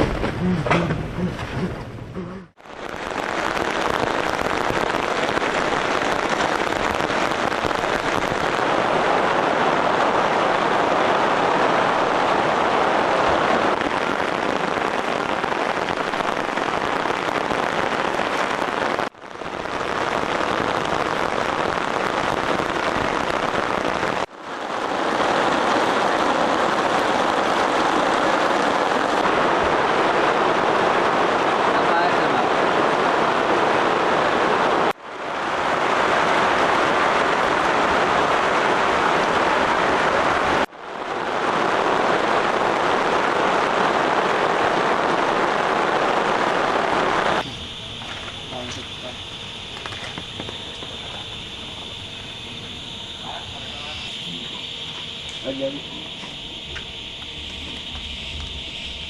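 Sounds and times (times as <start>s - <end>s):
steady rain: 2.4s - 59.0s.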